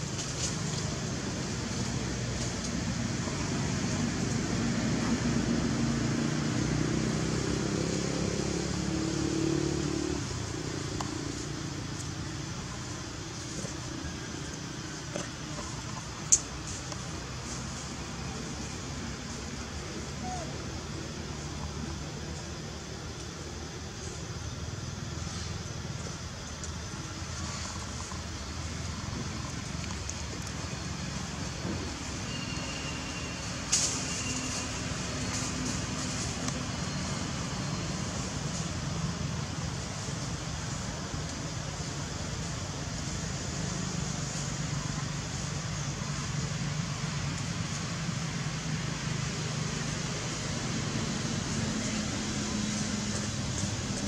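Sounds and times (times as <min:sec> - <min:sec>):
background hiss: 0:00.0 - 0:54.0
engine humming: 0:00.0 - 0:54.0.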